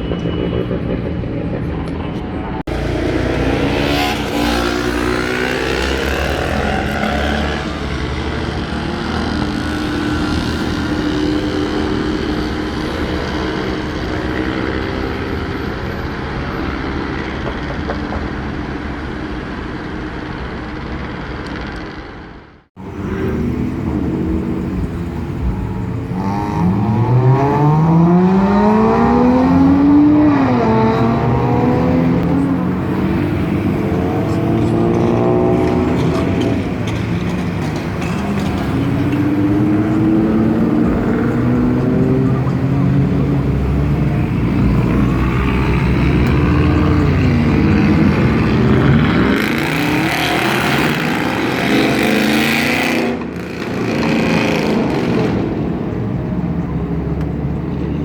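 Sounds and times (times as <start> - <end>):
vehicle engines in traffic: 0.0 - 58.0
engine revving: 2.6 - 22.0, 22.6 - 56.0.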